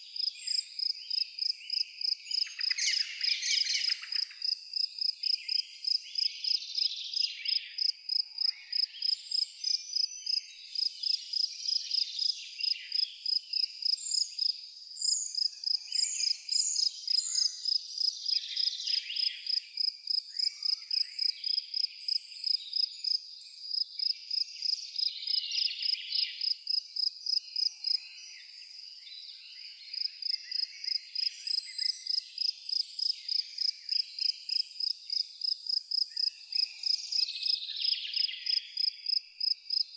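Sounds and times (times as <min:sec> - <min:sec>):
insects chirping: 0:00.2 - 0:28.8, 0:29.9 - 0:39.9.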